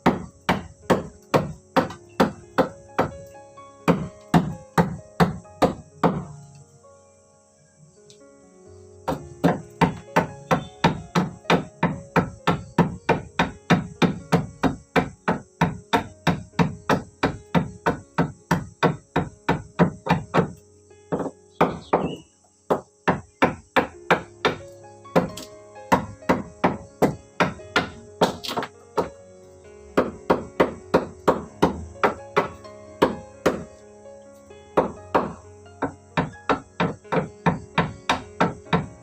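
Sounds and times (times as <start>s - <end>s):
hand tool striking wood: 0.0s - 6.4s, 9.1s - 29.2s, 30.0s - 33.8s, 34.8s - 39.0s.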